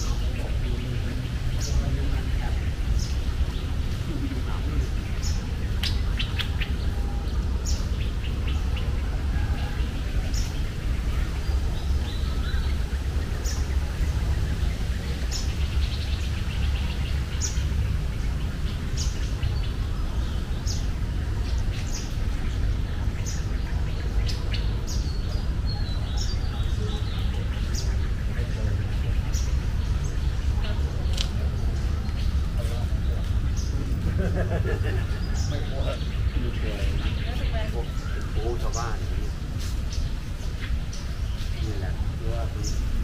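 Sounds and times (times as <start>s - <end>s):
bird chirping: 0.0s - 43.0s
steady low rumble: 0.0s - 43.0s.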